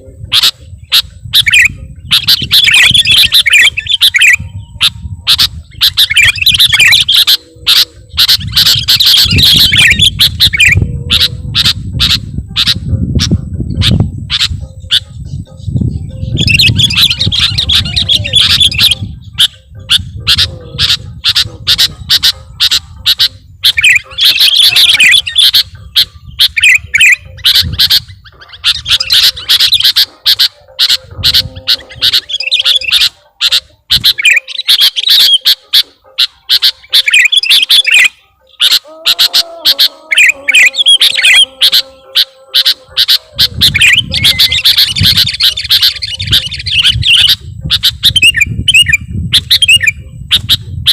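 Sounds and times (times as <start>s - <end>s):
bird chirping: 0.0s - 50.9s.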